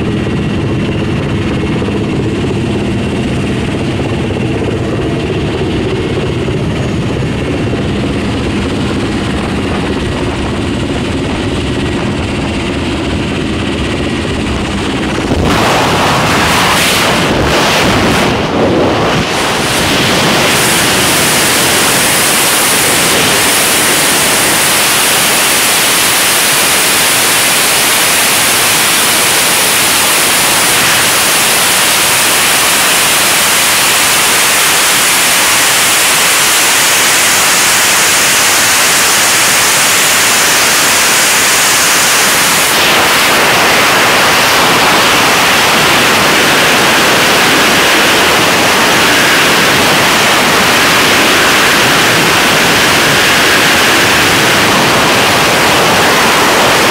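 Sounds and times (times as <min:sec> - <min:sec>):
freefall wind rushing over microphone: 0:00.0 - 0:56.9.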